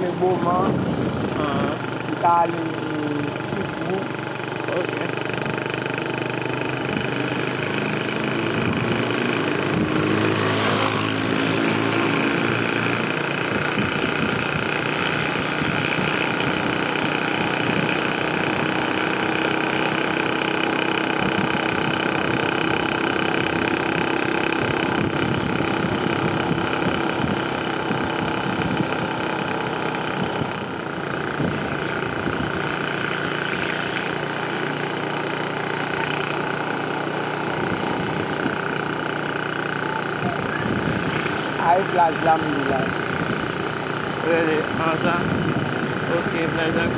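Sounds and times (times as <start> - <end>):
vehicle engine running: 0.0 - 46.9.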